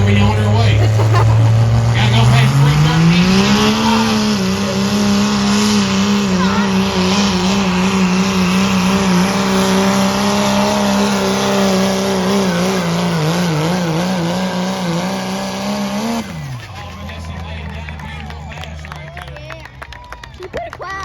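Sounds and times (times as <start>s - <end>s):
engine at high revs under load: 0.0s - 20.0s.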